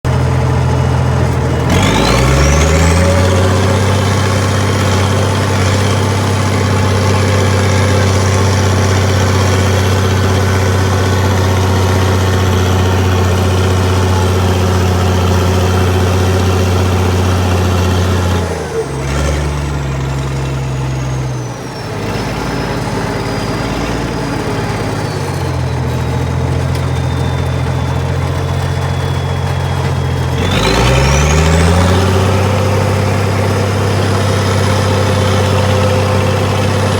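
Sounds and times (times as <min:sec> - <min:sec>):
heavy machine engine revving: 0:00.1 - 0:36.9.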